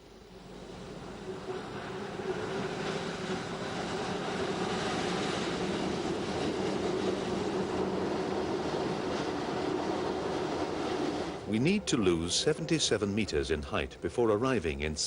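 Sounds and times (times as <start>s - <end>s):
train rolling on track: 0.0s - 15.0s.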